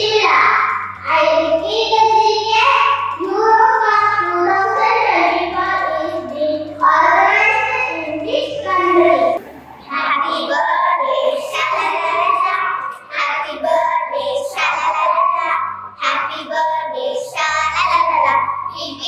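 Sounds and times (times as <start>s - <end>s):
girl singing into a microphone: 0.0s - 19.0s.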